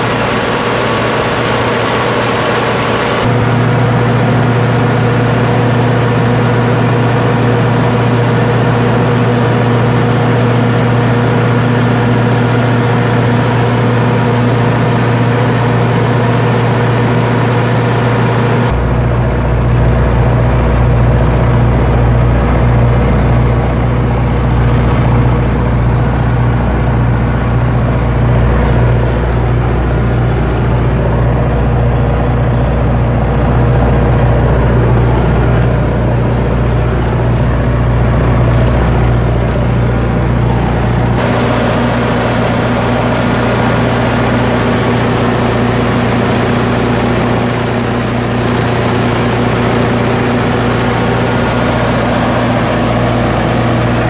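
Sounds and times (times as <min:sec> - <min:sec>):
diesel generator running: 0:00.0 - 0:54.0.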